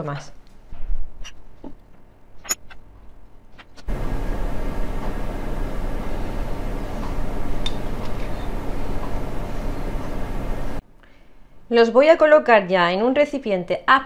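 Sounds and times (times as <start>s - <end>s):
steady hum and hiss: 0.0s - 13.7s.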